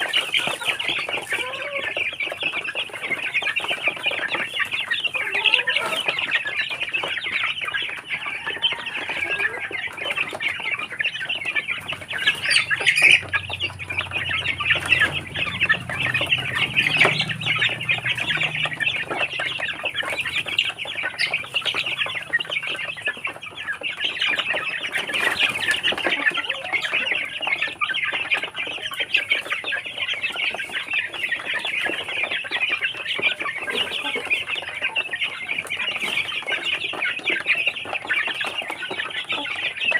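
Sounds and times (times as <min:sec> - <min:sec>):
young chickens peeping and clucking: 0:00.0 - 0:39.9.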